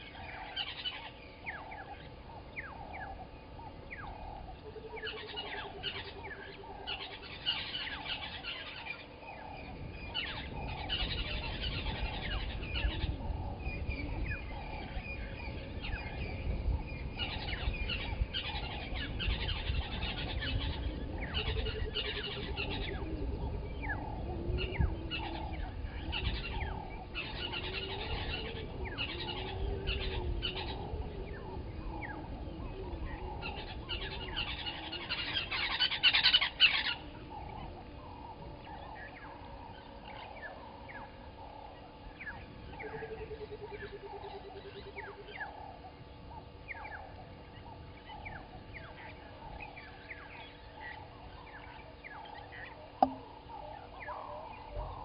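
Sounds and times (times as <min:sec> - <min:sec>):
birds chirping and calling: 0:00.0 - 0:55.0
low repeated bird call: 0:00.0 - 0:55.0.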